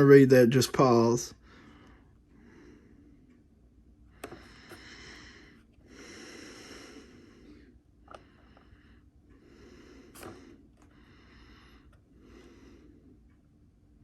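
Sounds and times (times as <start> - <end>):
faint slow breathing: 1.4 - 3.5, 4.1 - 13.4.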